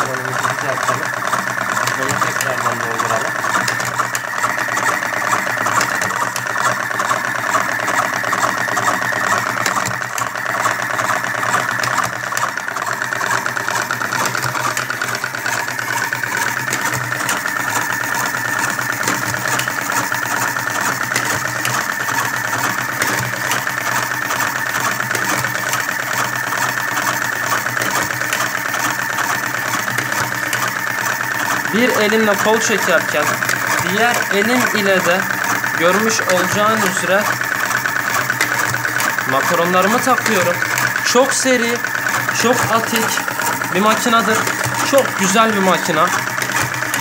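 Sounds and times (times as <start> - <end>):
small motor whirring and rattling: 0.0 - 47.0.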